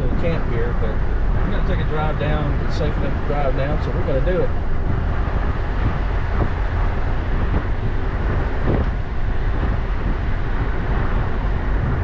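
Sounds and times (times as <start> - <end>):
vehicle road noise rumble: 0.0 - 12.0
wind buffeting microphone: 0.0 - 12.0.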